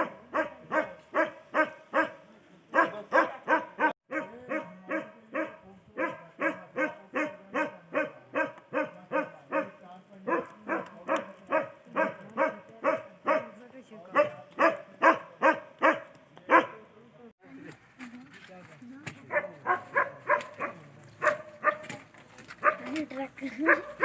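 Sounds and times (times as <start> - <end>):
dog barking: 0.0 - 16.8, 19.3 - 22.0, 22.6 - 23.0, 23.6 - 24.0.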